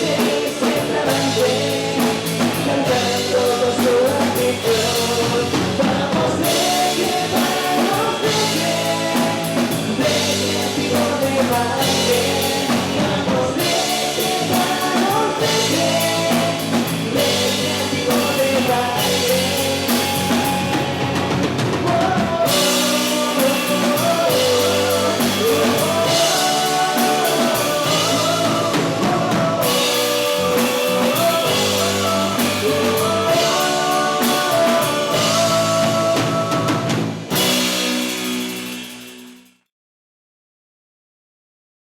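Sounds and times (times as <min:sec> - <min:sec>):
rock song with lead vocal: 0:00.0 - 0:39.0
drum kit: 0:00.0 - 0:39.6.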